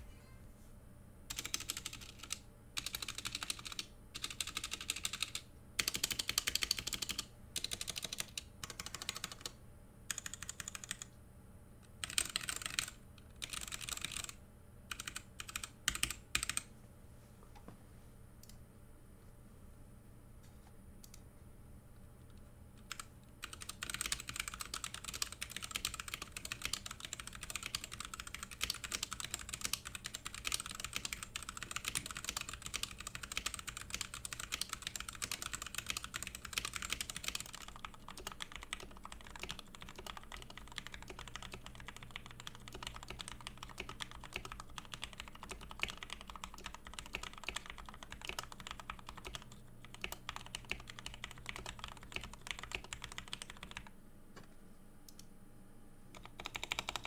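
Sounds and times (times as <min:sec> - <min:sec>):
fast mechanical keyboard typing: 0:01.3 - 0:11.1, 0:12.0 - 0:16.7, 0:22.8 - 0:53.9, 0:56.1 - 0:57.0.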